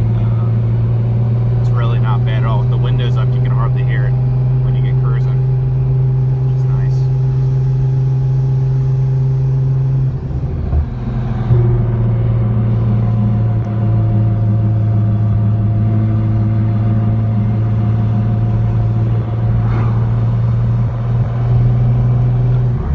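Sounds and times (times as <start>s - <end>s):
car engine droning: 0.0s - 22.9s.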